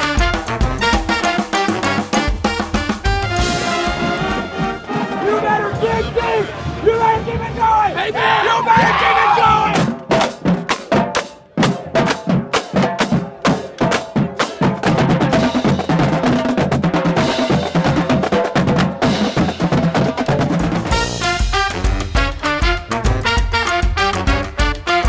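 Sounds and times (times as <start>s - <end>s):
drumline snare and bass drums: 0.0s - 8.1s, 8.7s - 25.0s.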